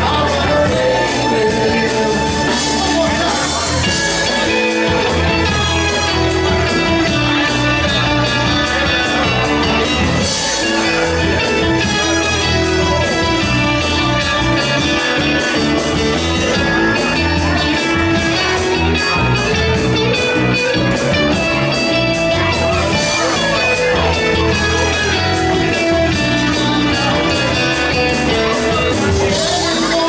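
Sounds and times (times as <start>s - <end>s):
bass guitar: 0.0s - 30.0s
drums keeping steady beat: 0.0s - 30.0s
electric guitar bending notes: 0.0s - 30.0s.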